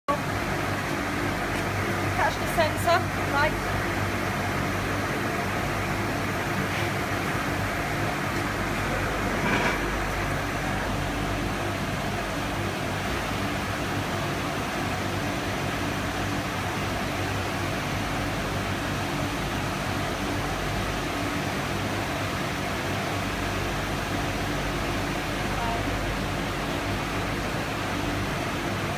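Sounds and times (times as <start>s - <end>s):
low machine hum: 0.1s - 28.9s.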